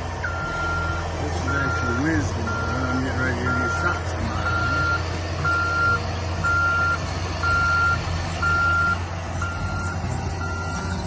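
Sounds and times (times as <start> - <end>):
diesel engine running: 0.0 - 11.0
reverse alarm beeps: 0.2 - 11.0.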